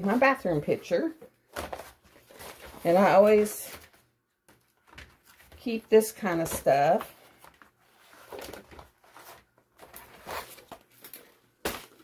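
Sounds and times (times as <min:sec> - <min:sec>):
faint rustling and handling: 0:00.0 - 0:12.0.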